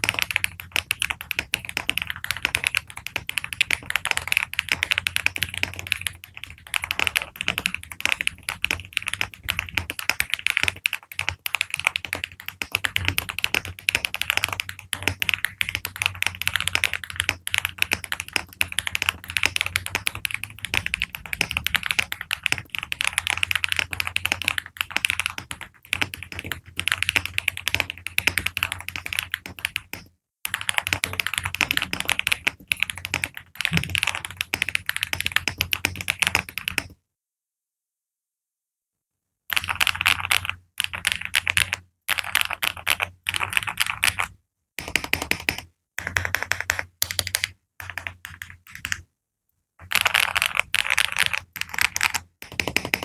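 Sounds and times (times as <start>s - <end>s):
typing on mechanical keyboard: 0.0s - 37.0s, 39.5s - 49.0s, 49.8s - 53.0s.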